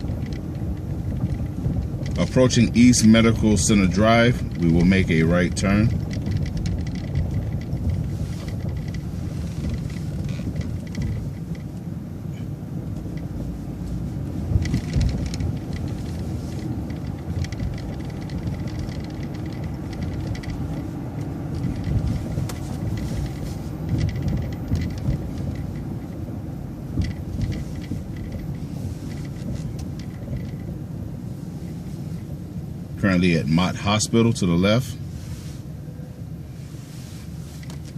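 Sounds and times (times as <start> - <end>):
rattles and knocks: 0.0 - 11.9, 12.8 - 32.3
bus engine and road rumble: 0.0 - 37.9.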